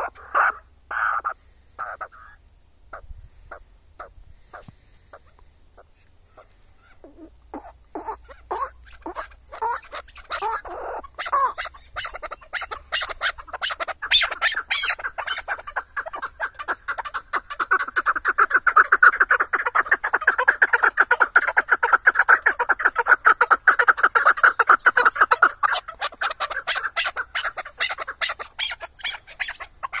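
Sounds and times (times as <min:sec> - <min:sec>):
partridge calling: 0:00.0 - 0:30.0.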